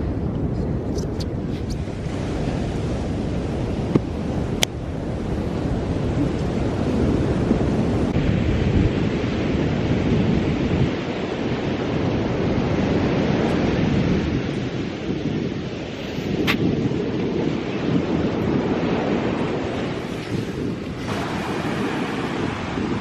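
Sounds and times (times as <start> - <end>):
wind buffeting microphone: 0.0 - 23.0
surf rushing: 1.5 - 23.0.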